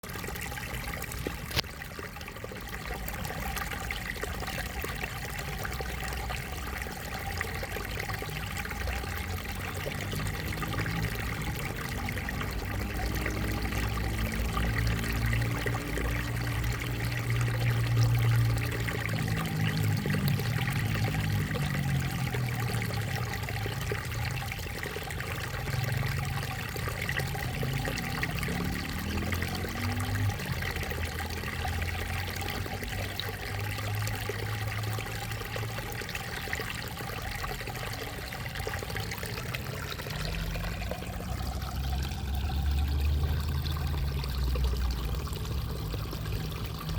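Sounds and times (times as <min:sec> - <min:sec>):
creek trickling over stones: 0:00.0 - 0:46.9.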